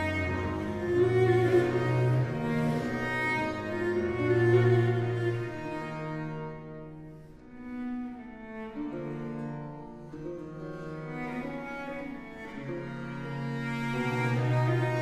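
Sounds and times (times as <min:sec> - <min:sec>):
cello melody: 0:00.0 - 0:15.0
harpsichord and strings accompaniment: 0:00.0 - 0:15.0.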